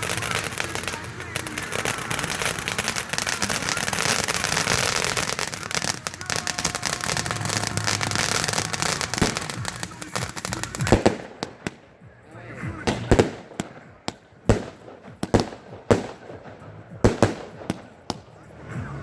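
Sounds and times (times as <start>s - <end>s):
fireworks crackling: 0.0s - 19.0s
fireworks sharp bangs: 0.0s - 19.0s.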